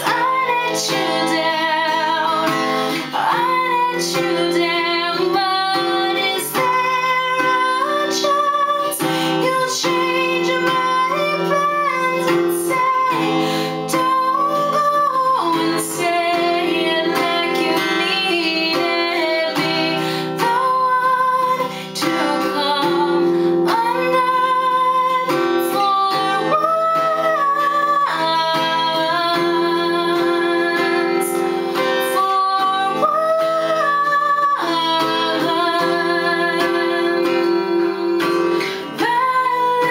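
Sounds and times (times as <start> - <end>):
strummed acoustic guitar: 0.0 - 39.9
woman singing: 0.0 - 39.9.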